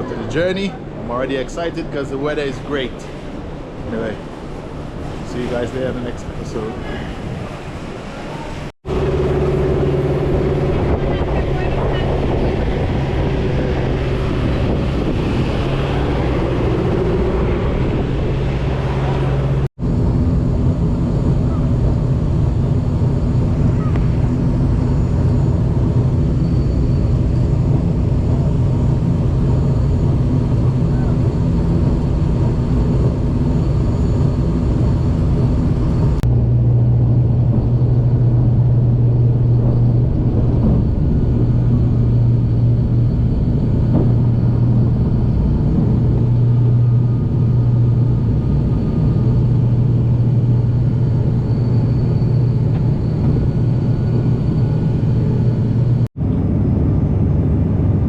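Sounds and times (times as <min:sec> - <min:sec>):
low hum: 0:00.0 - 0:58.0
vehicle interior rumble: 0:08.9 - 0:58.0.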